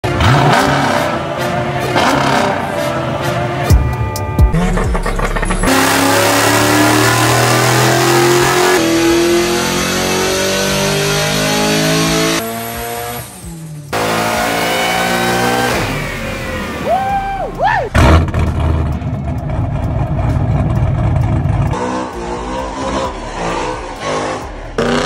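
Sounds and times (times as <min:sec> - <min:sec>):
car engine revving: 0:00.0 - 0:03.7, 0:04.6 - 0:17.0, 0:17.9 - 0:25.0.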